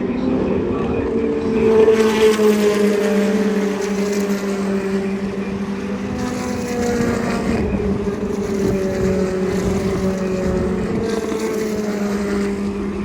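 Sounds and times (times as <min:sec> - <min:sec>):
race car engine running: 0:01.1 - 0:13.0.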